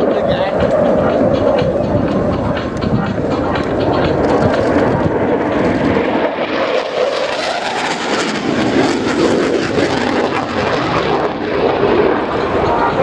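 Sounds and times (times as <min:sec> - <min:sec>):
jet fighter roaring past: 0:00.0 - 0:13.0.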